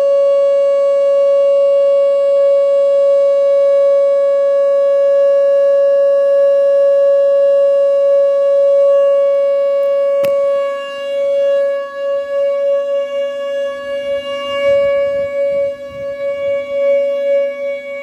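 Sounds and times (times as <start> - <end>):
electronic warning siren: 0.0 - 18.0.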